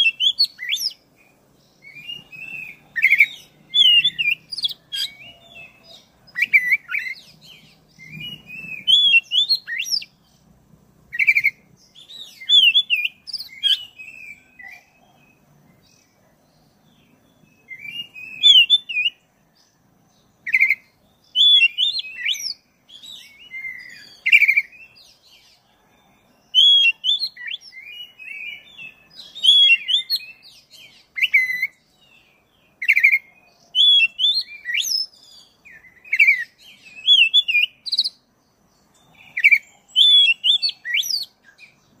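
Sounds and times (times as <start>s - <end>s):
bird singing whistled phrases: 0.0s - 1.0s, 1.8s - 10.1s, 11.2s - 15.4s, 17.4s - 19.2s, 20.5s - 25.1s, 25.7s - 32.1s, 32.8s - 38.2s, 39.3s - 41.8s.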